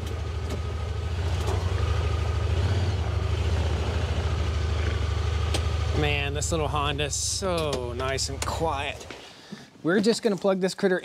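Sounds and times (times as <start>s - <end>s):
vehicle engine low hum: 0.0s - 9.2s.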